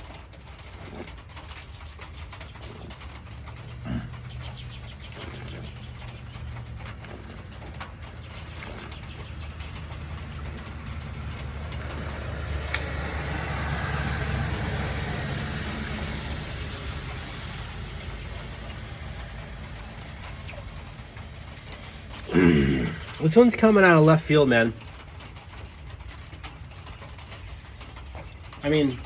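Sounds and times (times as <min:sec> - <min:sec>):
low engine hum: 0:00.0 - 0:29.0
rain drips ticking: 0:00.0 - 0:29.0.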